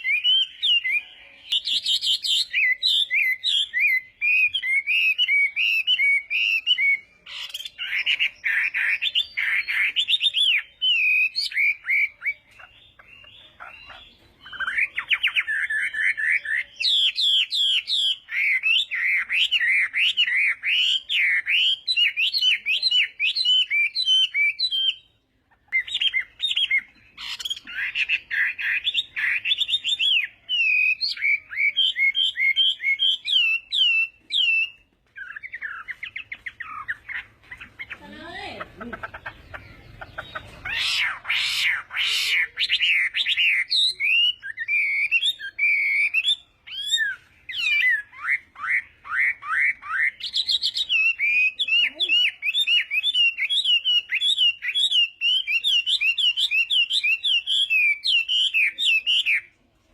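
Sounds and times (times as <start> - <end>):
bird singing whistles and trills: 0.0 - 38.1, 39.5 - 59.5.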